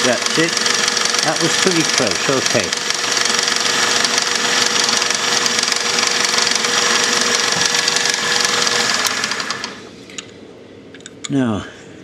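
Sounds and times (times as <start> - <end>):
milling machine running with whine: 0.0 - 9.9.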